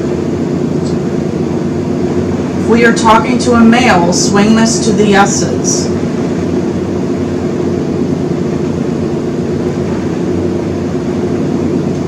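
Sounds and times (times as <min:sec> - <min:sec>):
droning hum: 0:00.0 - 0:12.0.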